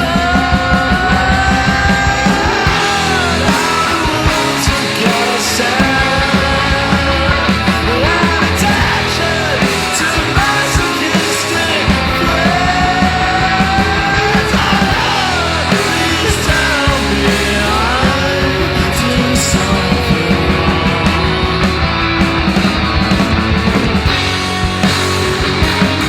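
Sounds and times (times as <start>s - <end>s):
person singing or yelling: 0.0s - 21.8s
bass guitar: 0.0s - 26.0s
distorted electric guitars: 0.0s - 26.0s
drums with steady beat: 0.0s - 26.0s.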